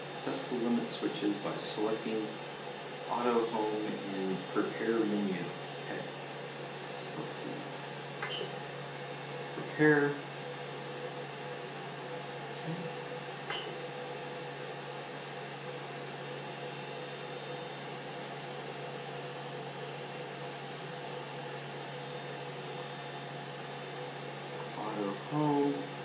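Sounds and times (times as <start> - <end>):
cooling fans whirring: 0.0 - 26.0.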